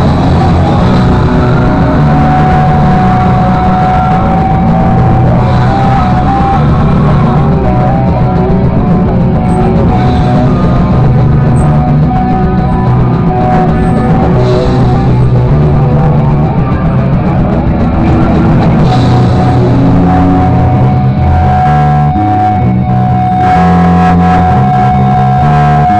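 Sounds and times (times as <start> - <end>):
drums: 0.0 - 25.9
electric guitar: 0.0 - 25.9
live rock band playing: 0.0 - 25.9.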